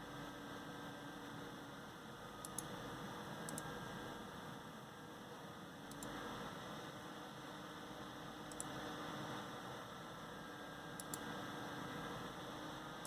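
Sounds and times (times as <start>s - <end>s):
computer fan whirring: 0.0s - 13.0s.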